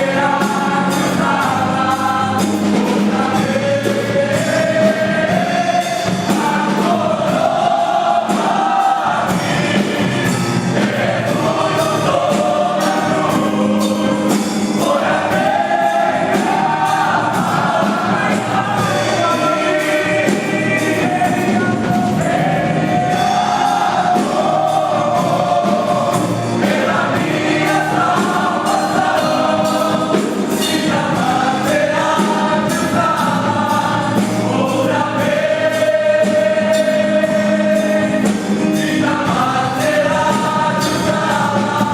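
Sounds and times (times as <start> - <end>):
choir singing with band: 0.0 - 41.9.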